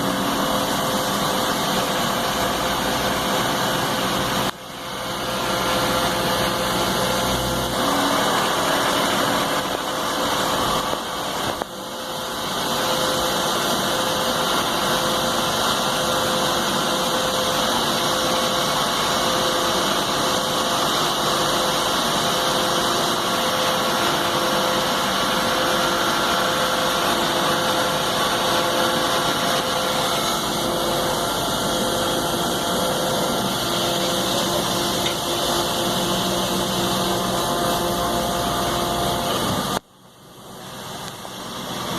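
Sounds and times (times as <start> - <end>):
lathe machine whirring: 0.0 - 41.9.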